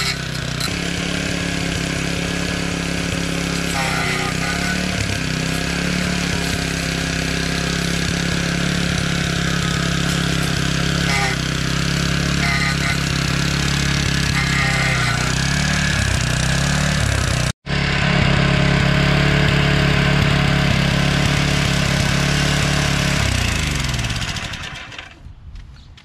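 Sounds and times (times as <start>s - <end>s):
small four-stroke engine running: 0.0s - 25.3s.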